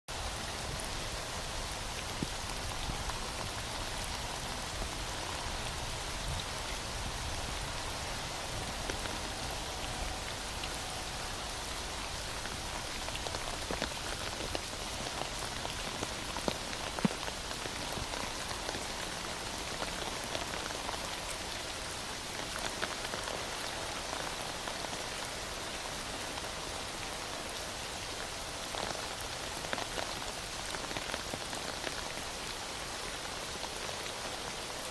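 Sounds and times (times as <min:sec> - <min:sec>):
heavy rain hissing: 0:00.1 - 0:34.9.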